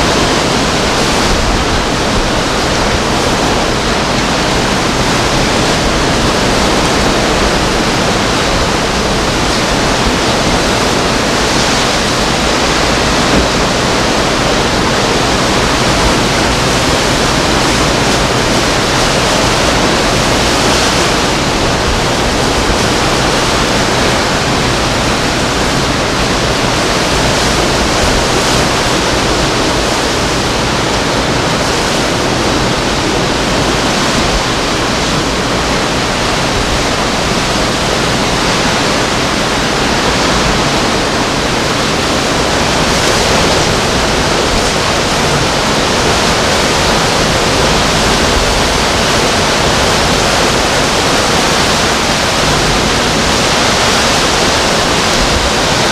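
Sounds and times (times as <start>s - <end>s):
strong wind rushing: 0.0s - 55.9s.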